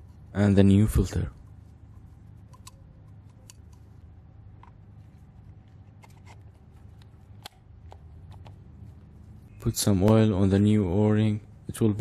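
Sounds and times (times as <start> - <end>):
low hum: 0.0 - 12.0
gloved hands handling plastic parts: 0.9 - 10.8.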